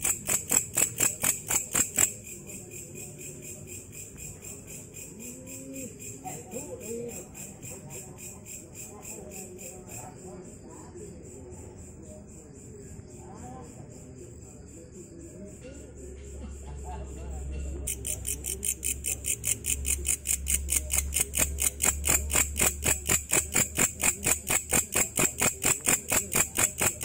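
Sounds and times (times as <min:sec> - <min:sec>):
katydid chirping: 0:00.0 - 0:27.0.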